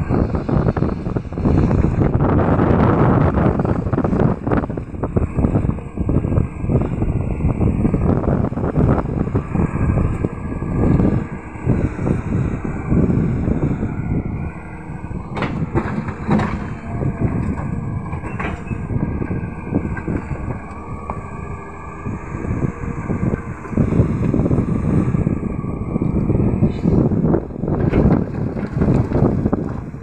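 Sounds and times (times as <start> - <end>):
excavator diesel engine under load: 0.0 - 30.0.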